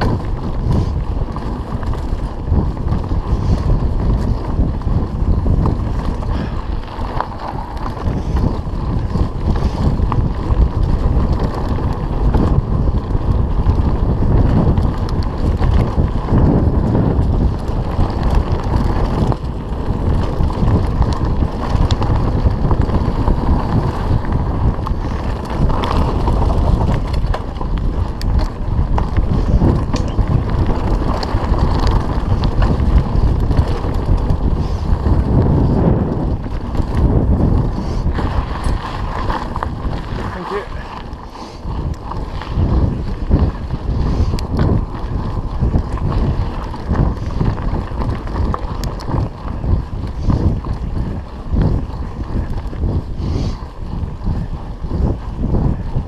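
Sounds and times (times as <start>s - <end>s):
bike rattling: 0.0s - 56.0s
tyres rumbling on dirt: 0.0s - 56.0s
wind noise on microphone: 0.0s - 56.0s.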